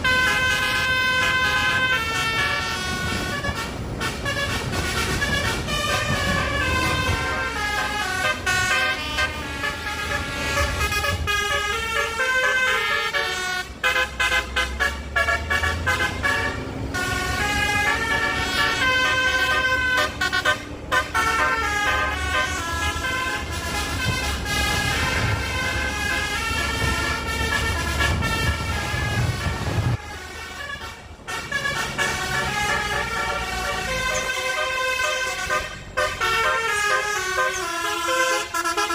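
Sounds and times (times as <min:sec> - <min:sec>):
musical air horn playing a tune: 0:00.0 - 0:38.9.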